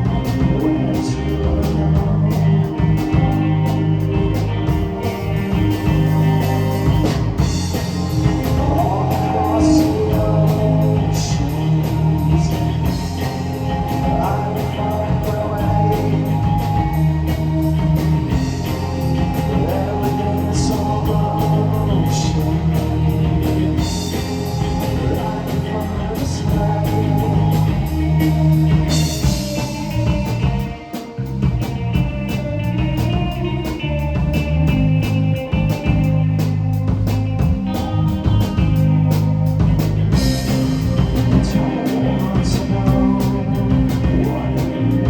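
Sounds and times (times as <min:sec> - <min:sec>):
bass guitar: 0:00.0 - 0:45.0
drum kit: 0:00.0 - 0:45.0
electric guitar: 0:00.0 - 0:45.0.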